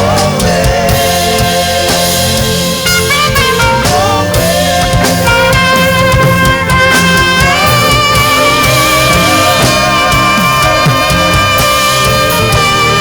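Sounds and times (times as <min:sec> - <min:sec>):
bass: 0:00.0 - 0:13.0
drums: 0:00.0 - 0:13.0
saxophone melody: 0:00.0 - 0:13.0.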